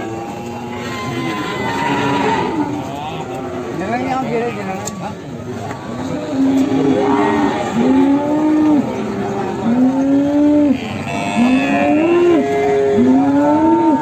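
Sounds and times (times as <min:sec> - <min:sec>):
cattle mooing: 0:00.0 - 0:04.2, 0:06.2 - 0:14.0.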